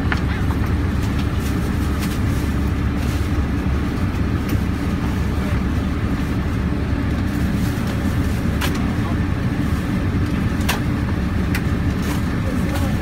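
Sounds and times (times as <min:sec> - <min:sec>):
coach engine idling: 0:00.0 - 0:13.0.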